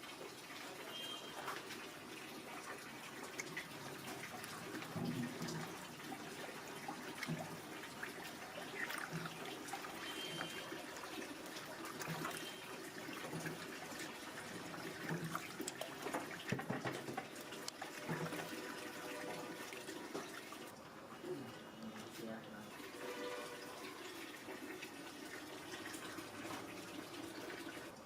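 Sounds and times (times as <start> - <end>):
water running and splashing: 0.0 - 20.9, 22.0 - 28.0.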